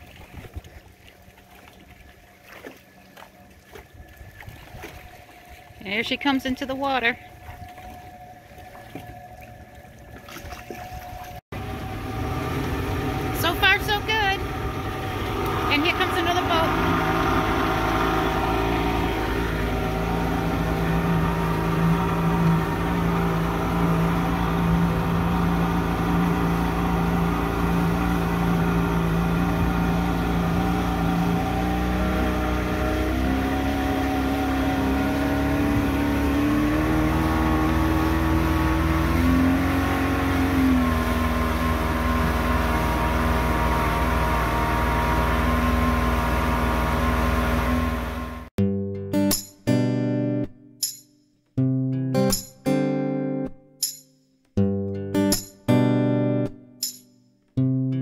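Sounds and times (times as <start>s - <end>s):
outboard motor running: 0.0s - 48.6s.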